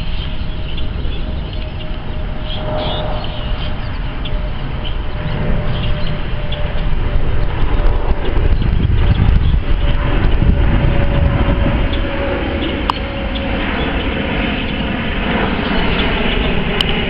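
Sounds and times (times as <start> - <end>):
birds chirping: 0.0 - 17.0
jet engines rumbling: 0.0 - 17.0.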